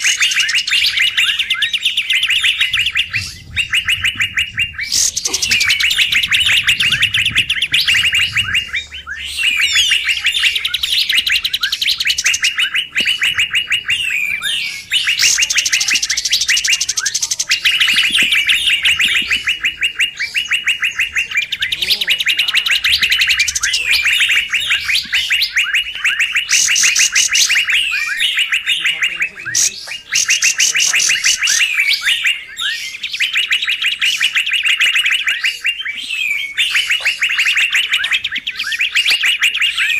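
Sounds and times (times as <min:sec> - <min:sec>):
birds rapid chattering calls: 0:00.0 - 0:39.9.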